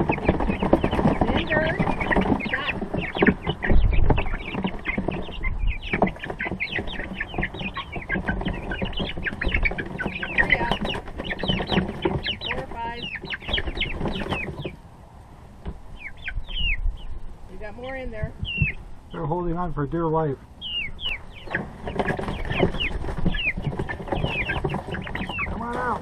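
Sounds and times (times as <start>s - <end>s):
chicks peeping: 0.0s - 26.0s
low bumps: 0.0s - 26.0s.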